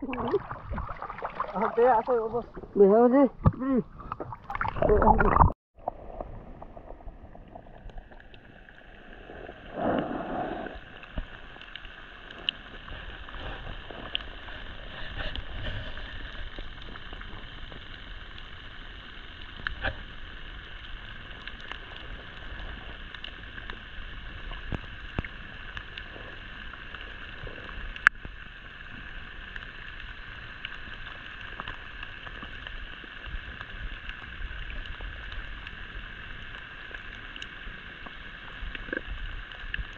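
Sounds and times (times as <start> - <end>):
muffled underwater hiss: 0.0 - 39.9.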